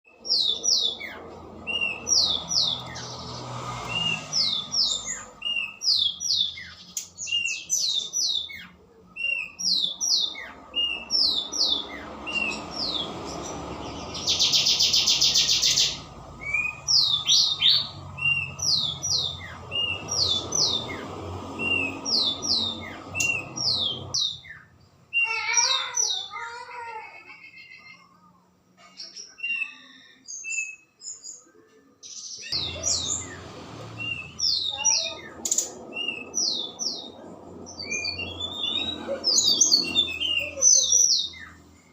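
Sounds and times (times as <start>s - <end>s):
songbirds chirping: 0.0s - 41.9s
wavering lower bird calls: 0.1s - 28.2s, 32.4s - 41.9s.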